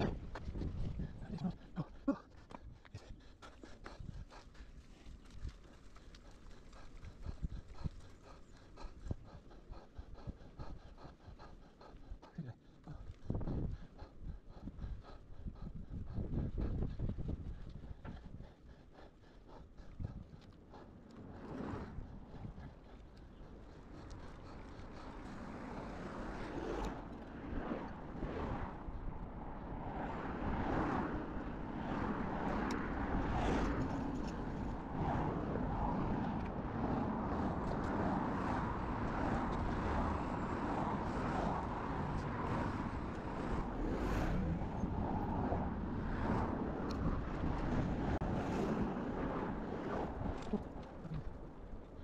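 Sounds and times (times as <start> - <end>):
bicycle road and tyre noise: 0.0 - 52.0
wind buffeting microphone: 0.0 - 52.0.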